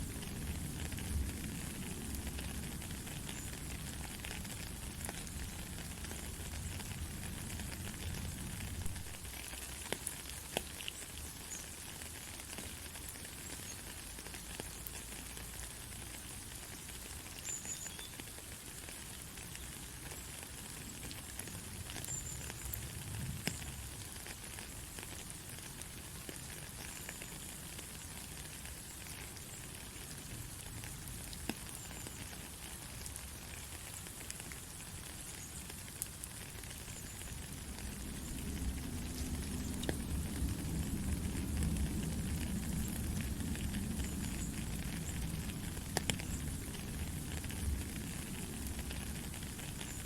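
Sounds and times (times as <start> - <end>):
rain falling: 0.0 - 50.0
raindrops ticking: 0.0 - 50.0.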